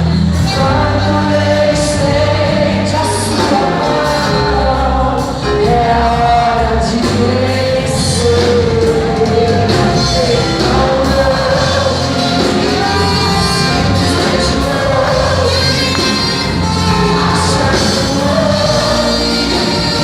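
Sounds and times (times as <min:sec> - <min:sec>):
band with steady bass line: 0:00.0 - 0:20.0
voices singing gospel: 0:00.0 - 0:20.0.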